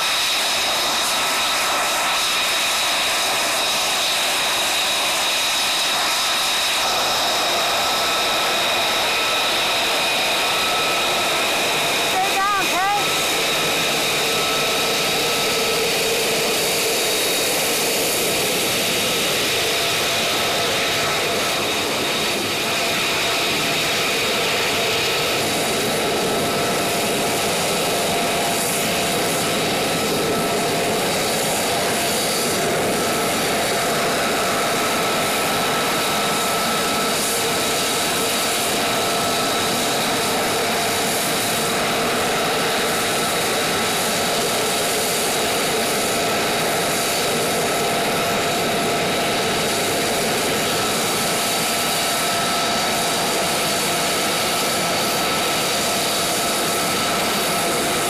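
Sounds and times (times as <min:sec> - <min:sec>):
jet engine idling: 0:00.0 - 0:58.0.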